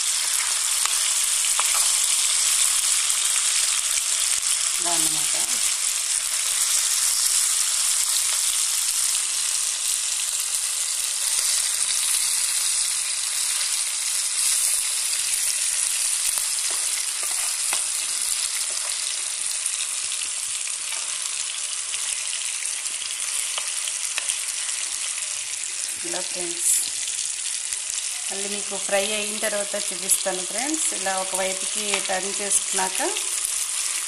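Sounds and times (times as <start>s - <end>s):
fish sizzling in hot oil: 0.0s - 34.0s.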